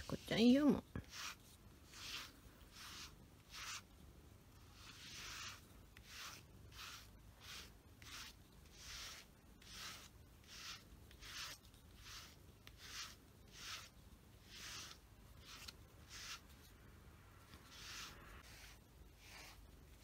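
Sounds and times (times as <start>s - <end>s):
brush scratching through fur: 0.0s - 4.0s, 4.6s - 16.8s, 17.4s - 20.0s.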